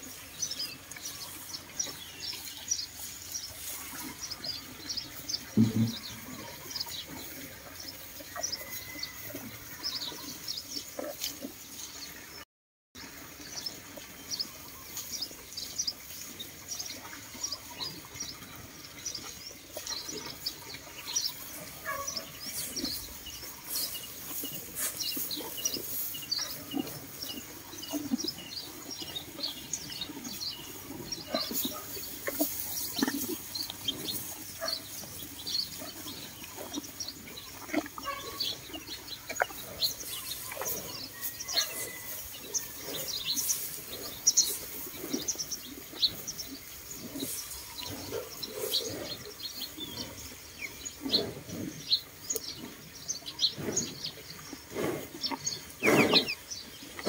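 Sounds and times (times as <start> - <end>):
cows munching hay: 0.0 - 12.4, 13.0 - 57.0
small birds chirping: 0.0 - 12.4, 13.3 - 57.0.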